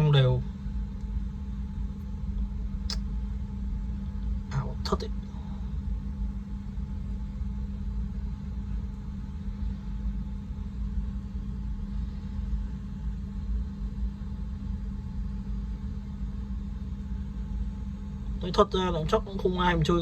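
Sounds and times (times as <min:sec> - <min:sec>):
steady low rumble and hum: 0:00.0 - 0:20.0.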